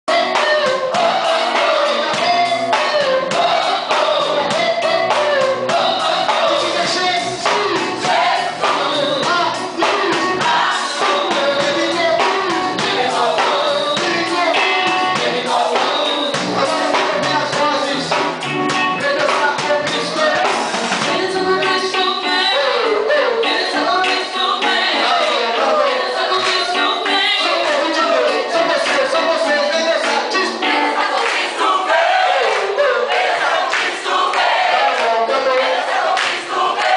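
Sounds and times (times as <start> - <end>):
group singing over a beat: 0.1 - 36.9.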